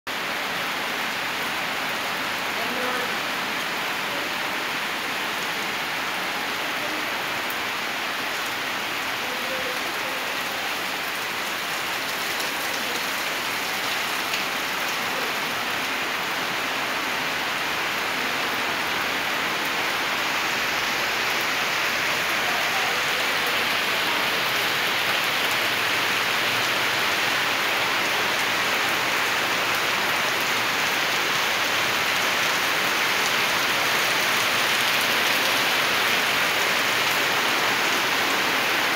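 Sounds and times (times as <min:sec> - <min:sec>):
steady rain pouring: 0:00.1 - 0:38.9.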